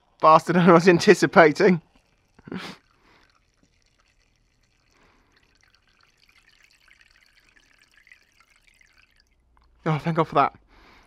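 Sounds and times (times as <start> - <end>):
liquid trickling and dripping: 0.0 - 11.0.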